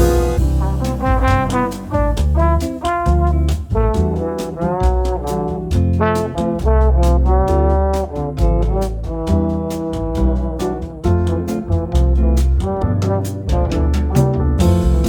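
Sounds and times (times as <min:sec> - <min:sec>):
bass line: 0:00.0 - 0:15.0
brass melody: 0:00.0 - 0:15.0
steady drum beat: 0:00.0 - 0:15.0.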